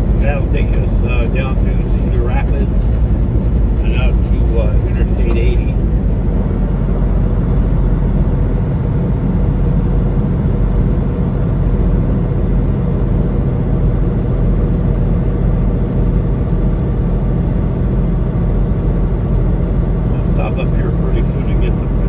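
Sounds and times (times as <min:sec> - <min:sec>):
road noise: 0:00.0 - 0:22.0
truck diesel engine drone: 0:00.0 - 0:22.0.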